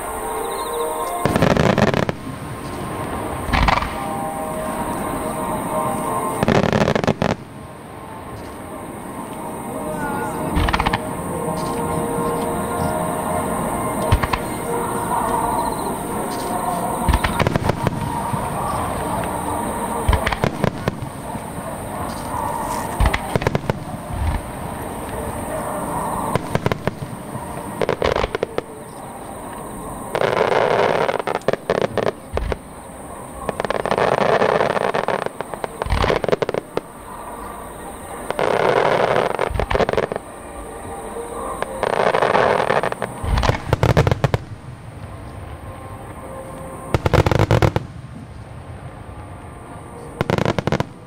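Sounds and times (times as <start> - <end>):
firework dense crackling: 0.0 - 51.0.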